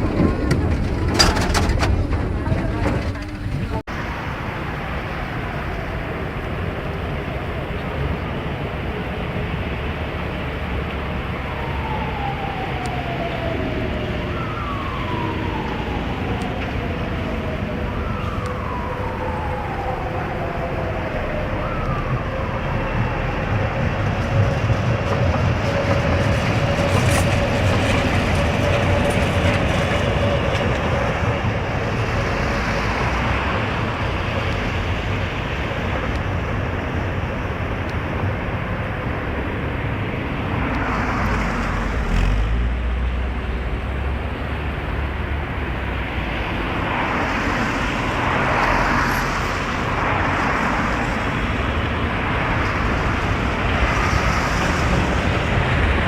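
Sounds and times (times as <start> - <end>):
tram wheels rumbling on rails: 0.0 - 56.0.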